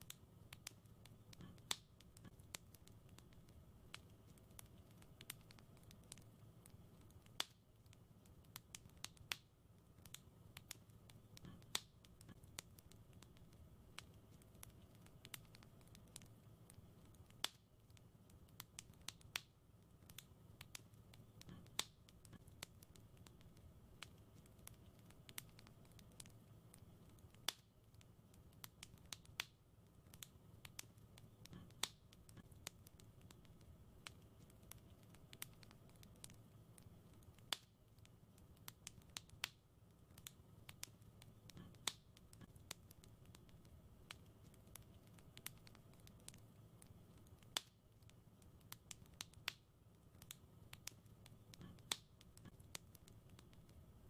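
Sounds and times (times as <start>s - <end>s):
fire pops and snaps: 0.0s - 53.9s
wood fire crackling: 0.0s - 54.0s.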